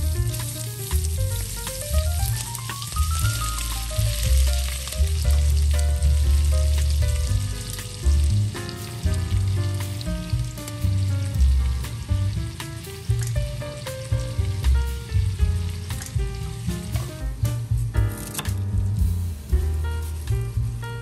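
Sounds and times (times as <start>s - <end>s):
background music with bass: 0.0s - 21.0s
food sizzling in oil: 0.0s - 21.0s.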